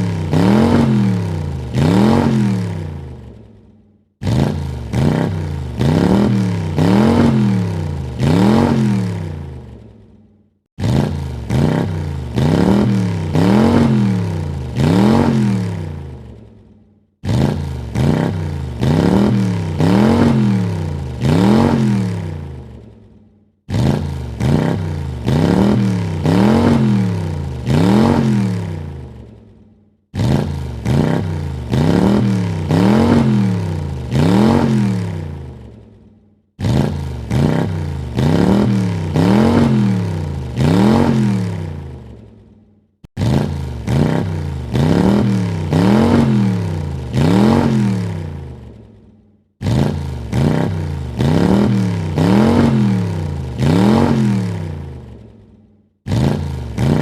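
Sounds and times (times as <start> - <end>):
car engine revving in blips: 0.0 - 3.1, 4.2 - 9.9, 10.8 - 16.4, 17.2 - 22.8, 23.7 - 29.3, 30.1 - 35.8, 36.6 - 42.2, 43.0 - 48.7, 49.6 - 55.2, 56.0 - 57.0.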